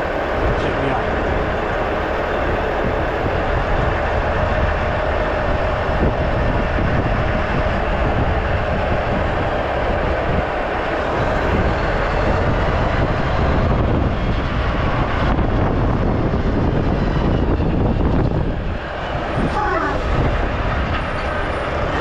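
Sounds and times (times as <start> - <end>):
truck diesel engine rumble: 0.0 - 22.0
tyre and road noise: 0.0 - 22.0.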